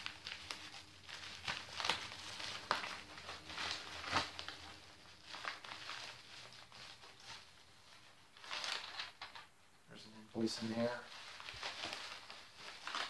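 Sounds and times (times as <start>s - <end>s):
paper envelope tearing and crinkling: 0.0s - 7.5s, 8.3s - 9.4s, 10.7s - 13.0s.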